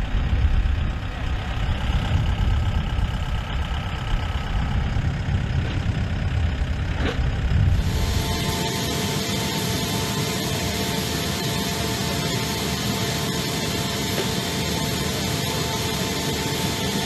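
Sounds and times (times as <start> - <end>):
jet turbine running: 0.0 - 17.0.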